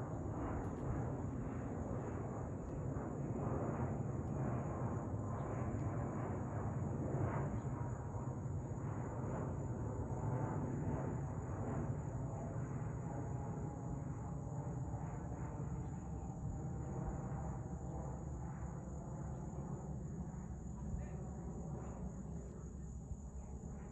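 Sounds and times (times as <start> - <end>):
distant jet engine rumble: 0.0 - 23.9.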